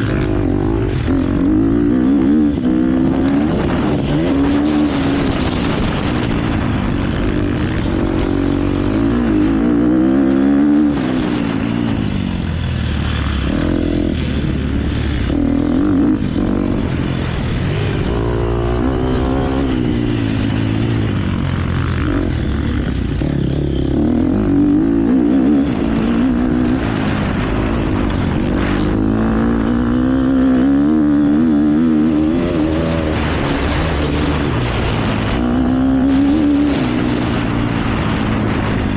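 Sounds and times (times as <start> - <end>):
motocross engine revving: 0.0 - 12.2, 12.8 - 38.9
wind noise: 0.0 - 38.9.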